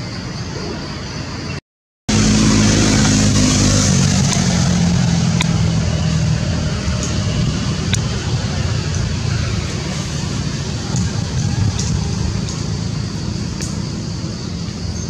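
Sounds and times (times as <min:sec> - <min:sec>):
steady engine hum with hiss: 0:02.1 - 0:15.0.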